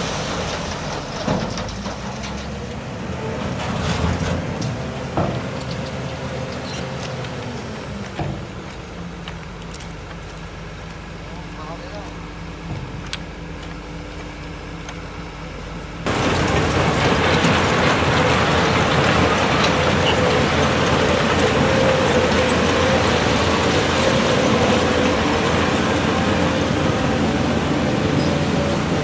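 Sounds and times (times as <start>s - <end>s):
steel tracks clattering: 0.0s - 11.0s, 16.0s - 29.0s
bulldozer engine running: 0.0s - 29.0s.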